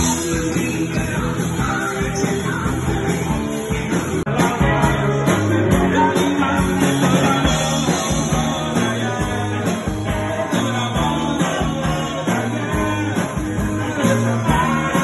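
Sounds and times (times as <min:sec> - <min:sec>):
drum kit beat: 0:00.0 - 0:15.0
electric guitars: 0:00.0 - 0:15.0.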